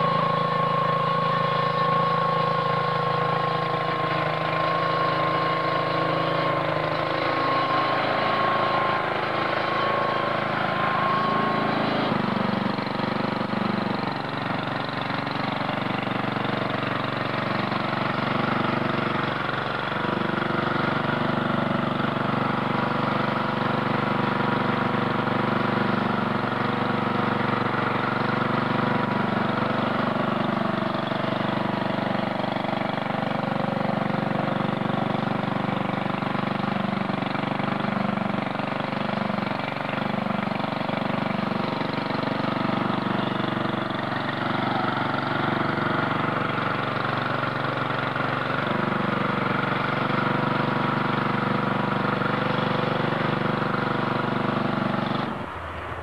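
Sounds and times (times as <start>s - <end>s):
blade plowing snow: 0.0s - 56.0s
small tractor engine running: 0.0s - 56.0s.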